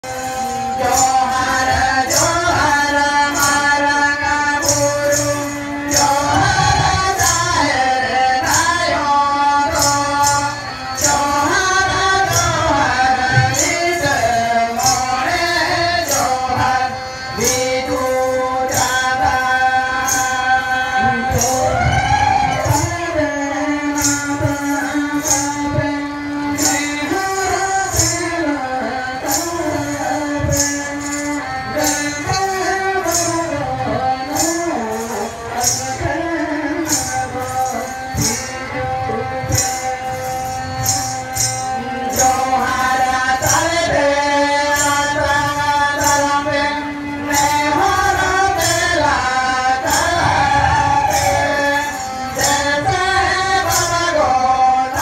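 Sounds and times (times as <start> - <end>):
jingling percussion beat: 0.0 - 55.0
singing: 0.0 - 55.0.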